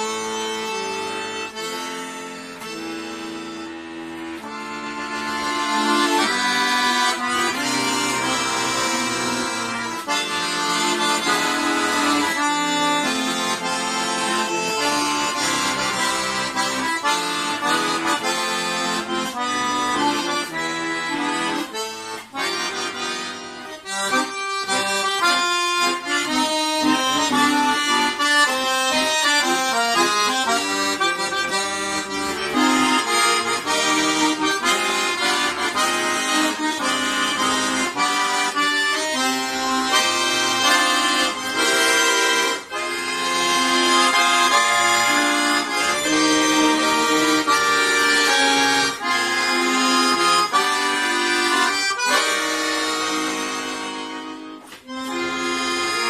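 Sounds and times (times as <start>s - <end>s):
button accordion playing: 0.0s - 56.0s.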